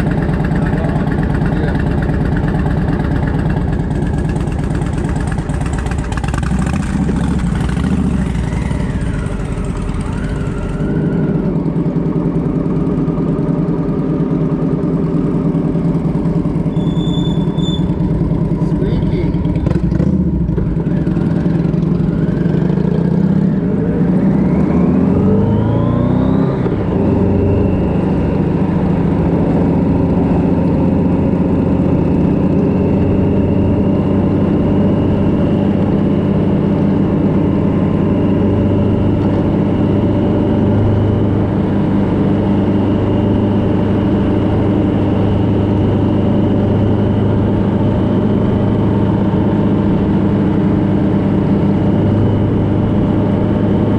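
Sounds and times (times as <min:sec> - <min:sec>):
road and wind noise: 0:00.0 - 0:53.9
vehicle engine accelerating: 0:00.0 - 0:53.9.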